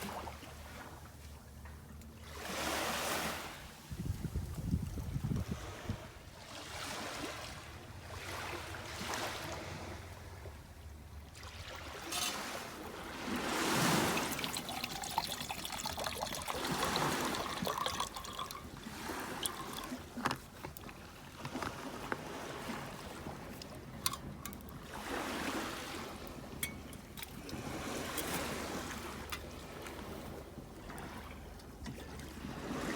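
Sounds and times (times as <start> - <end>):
small waves lapping at shore: 0.0 - 1.4, 2.1 - 32.9.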